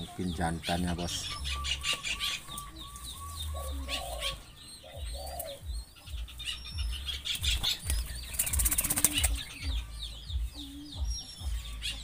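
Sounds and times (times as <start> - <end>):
doves cooing: 0.0 - 12.0
small birds chirping: 0.0 - 12.0.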